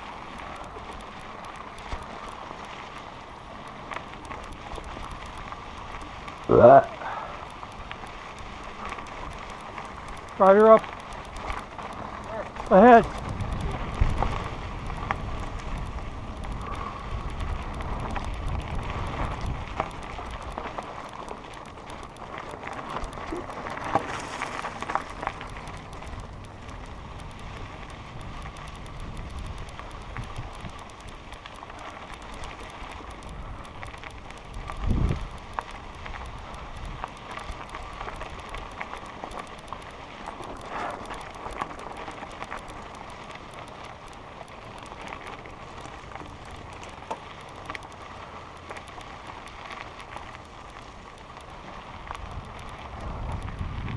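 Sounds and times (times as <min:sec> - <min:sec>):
bike rattling: 0:00.0 - 0:53.9
tyres crunching on gravel: 0:00.0 - 0:53.9
wind noise: 0:04.3 - 0:43.8, 0:49.0 - 0:53.9.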